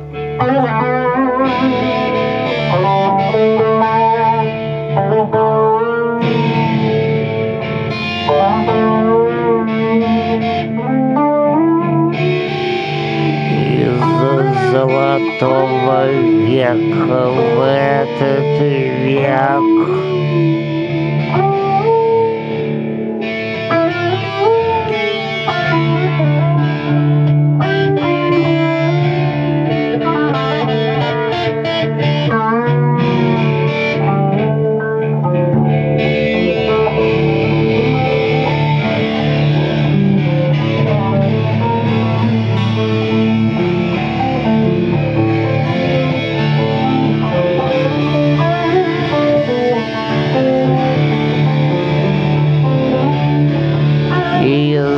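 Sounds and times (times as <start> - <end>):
acoustic guitar chords: 0.0 - 54.9
electric guitar lead: 0.0 - 54.9.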